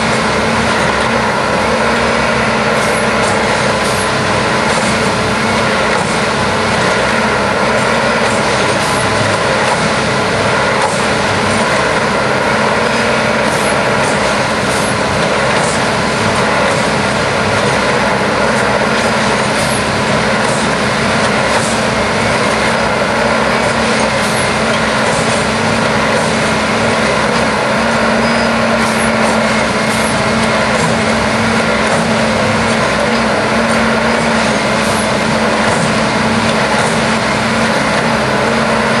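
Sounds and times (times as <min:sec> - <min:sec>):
track machine engine droning: 0:00.0 - 0:39.0.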